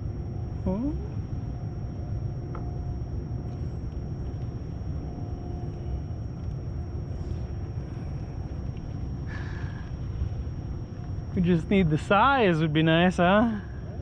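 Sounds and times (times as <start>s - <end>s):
boat engine rumble: 0.0s - 14.0s
faint hum: 0.0s - 14.0s.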